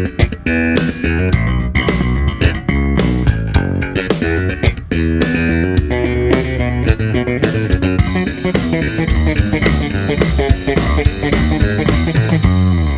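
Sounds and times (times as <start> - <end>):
slap bass guitar: 0.0 - 12.9.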